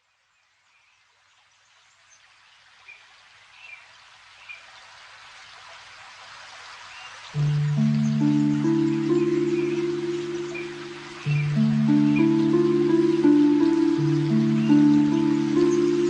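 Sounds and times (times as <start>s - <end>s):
running water rushing: 1.5s - 16.0s.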